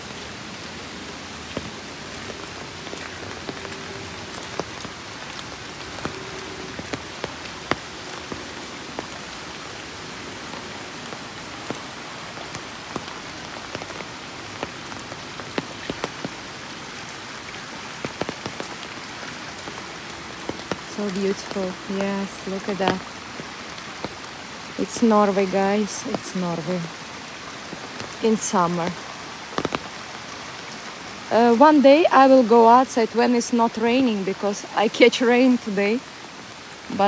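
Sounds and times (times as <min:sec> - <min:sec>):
raindrops ticking: 0:00.0 - 0:37.0
steady rain falling: 0:00.0 - 0:37.0.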